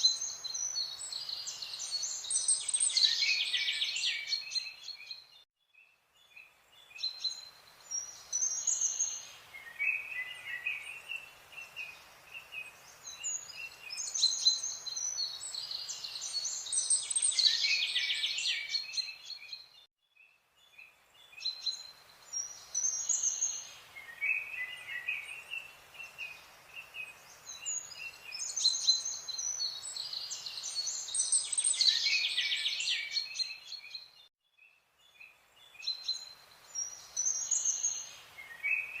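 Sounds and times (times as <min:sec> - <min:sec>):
birds chirping and trilling: 0:00.0 - 0:05.4, 0:06.2 - 0:39.0
faint steady hiss: 0:00.0 - 0:39.0.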